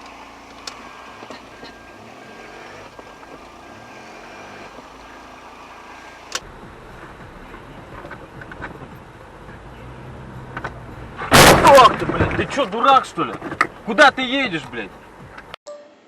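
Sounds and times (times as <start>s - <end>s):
car road and engine noise: 0.0s - 15.6s.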